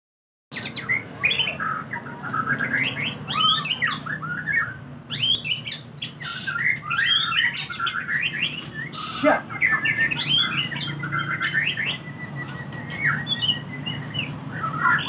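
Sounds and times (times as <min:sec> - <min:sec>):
songbird singing whistles and chirps: 0:00.5 - 0:15.0.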